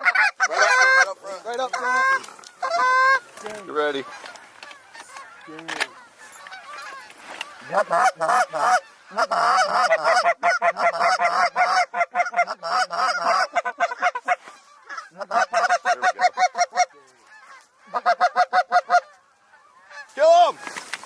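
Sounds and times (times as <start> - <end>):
goose honking and clucking: 0.0 - 21.0.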